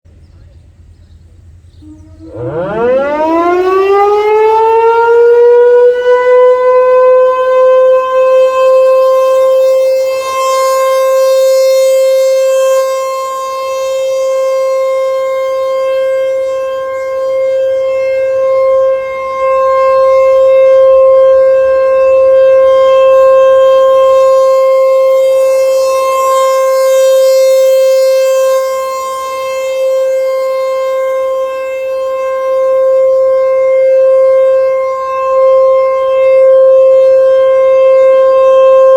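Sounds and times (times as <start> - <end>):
tornado siren steady tone: 0.1 - 38.9.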